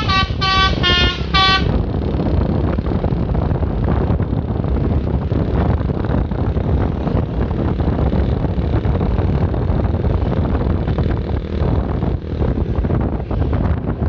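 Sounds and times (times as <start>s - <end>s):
vehicle and road rumble: 0.0s - 14.0s
wind buffeting microphone: 0.0s - 14.0s.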